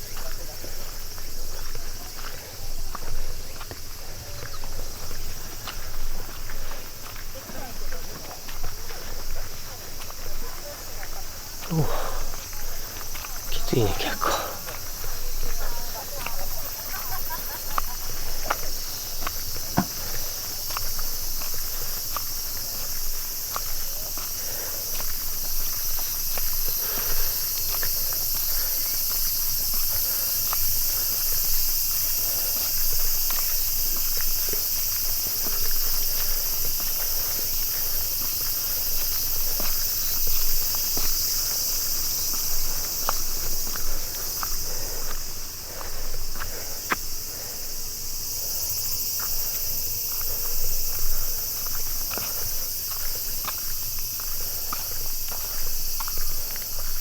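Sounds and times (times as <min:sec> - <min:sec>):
footsteps on path: 0:00.0 - 0:57.0
insects chirring: 0:00.0 - 0:57.0.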